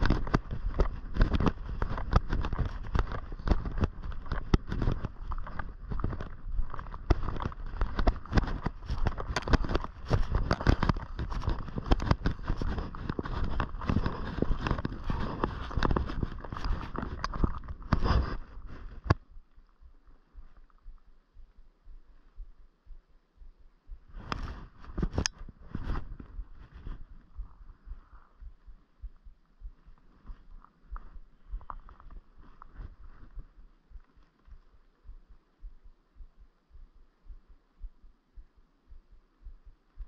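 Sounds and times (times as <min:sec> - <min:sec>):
faint wind: 0:00.0 - 0:40.0
footsteps on a trail: 0:00.0 - 0:40.0.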